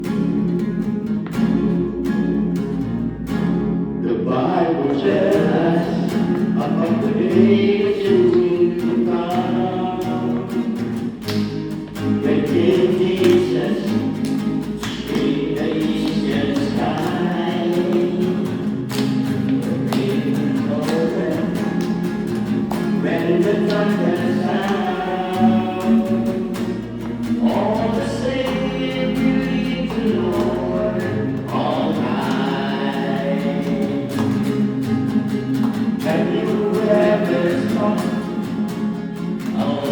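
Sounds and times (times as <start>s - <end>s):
guitar strumming: 0.0s - 39.9s
choir singing gospel: 4.0s - 11.3s, 11.9s - 39.9s.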